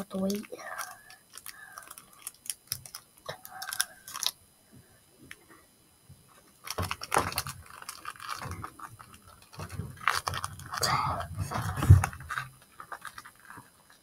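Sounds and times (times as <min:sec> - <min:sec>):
child crunching candy: 0:00.1 - 0:04.4, 0:06.5 - 0:14.0.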